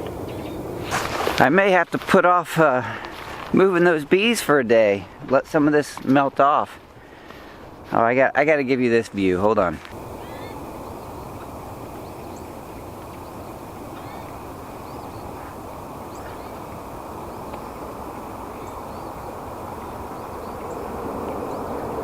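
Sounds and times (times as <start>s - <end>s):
steady rushing outdoor noise: 0.0s - 22.0s.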